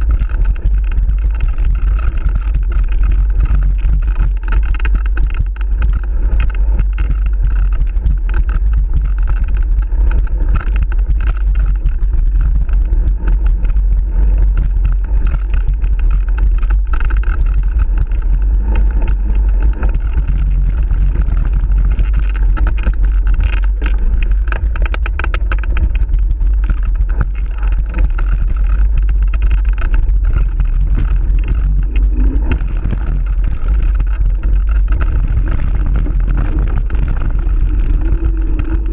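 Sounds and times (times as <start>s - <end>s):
bike and camera mount rattling: 0.0s - 38.9s
heavy wind rumble: 0.0s - 38.9s.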